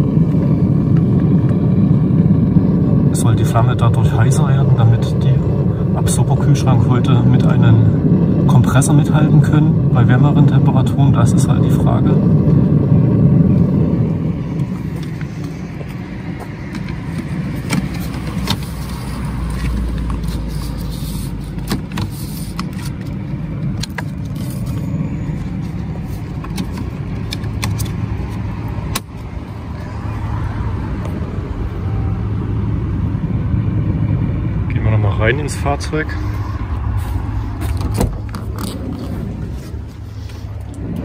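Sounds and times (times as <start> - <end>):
gas flame rushing: 0.0 - 34.7, 35.4 - 41.0
deep rumble: 0.0 - 41.0
passing road traffic: 0.0 - 41.0.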